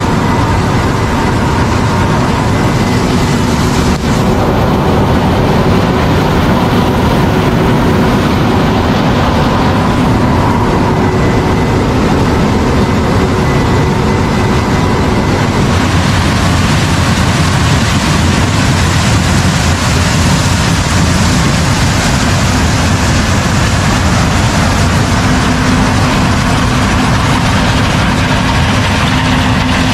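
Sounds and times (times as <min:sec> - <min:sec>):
combine harvester running: 0:00.0 - 0:29.9.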